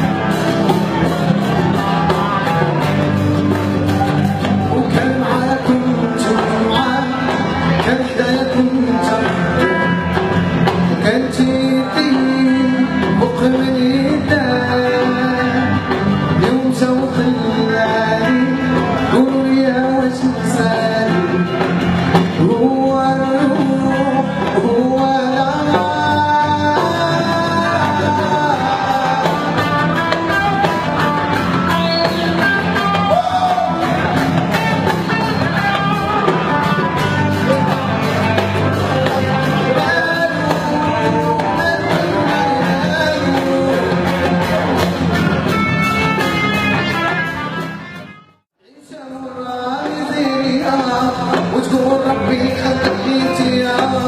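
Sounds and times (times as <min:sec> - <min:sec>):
guitar: 0:00.0 - 0:54.0
percussion: 0:00.0 - 0:54.0.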